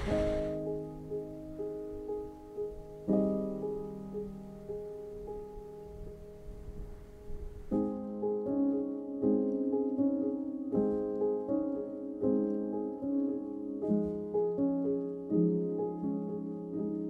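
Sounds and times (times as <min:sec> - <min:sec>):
relaxing piano music: 0:00.0 - 0:17.0.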